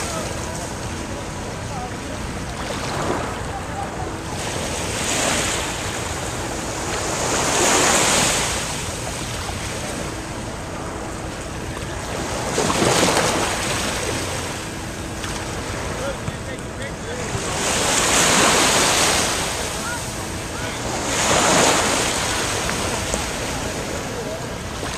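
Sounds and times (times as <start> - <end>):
small waves breaking on sand: 2.5 - 10.2, 11.3 - 14.6, 15.2 - 24.9.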